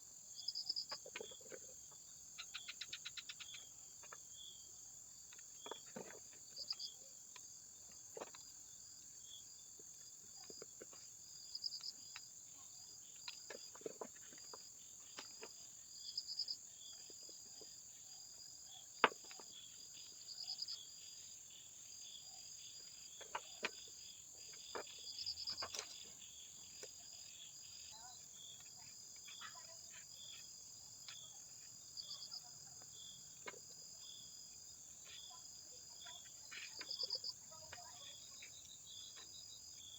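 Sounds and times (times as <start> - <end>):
insects chirping: 0.1 - 39.9.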